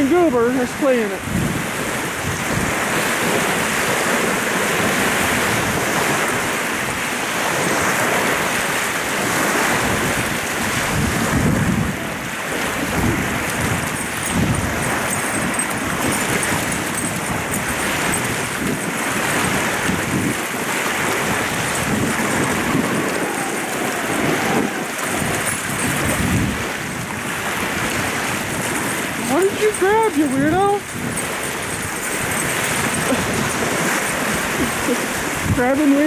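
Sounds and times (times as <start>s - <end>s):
waves washing onto shore: 0.0s - 36.0s
wind buffeting microphone: 0.0s - 36.0s.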